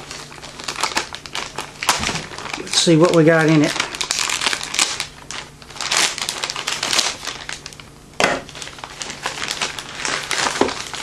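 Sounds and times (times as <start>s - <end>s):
packaging crinkling and rustling: 0.0s - 11.0s
sharp packaging crackle: 0.0s - 11.0s.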